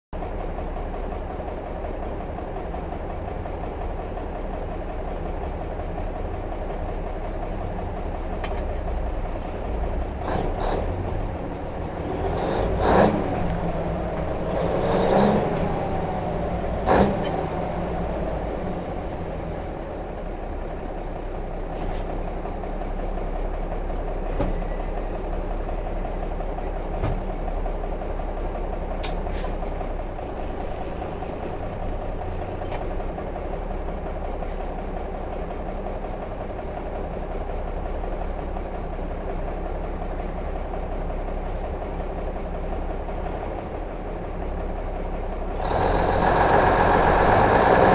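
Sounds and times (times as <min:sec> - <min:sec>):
diesel truck idling: 0:00.2 - 0:47.9.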